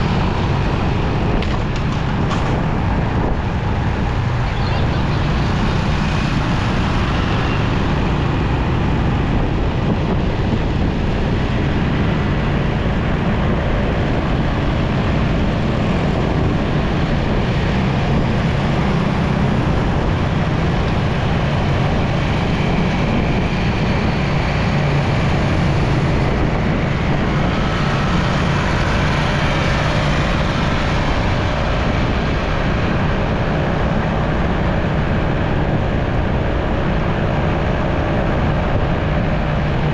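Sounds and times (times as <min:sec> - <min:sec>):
surrounding traffic: 0:00.0 - 0:39.9
wind: 0:00.0 - 0:39.9.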